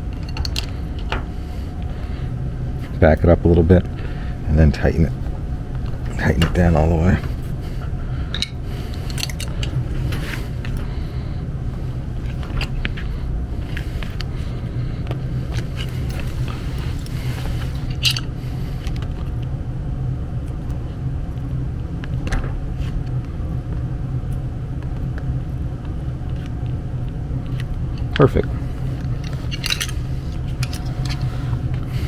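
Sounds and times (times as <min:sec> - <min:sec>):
gas furnace humming: 0:00.0 - 0:32.0.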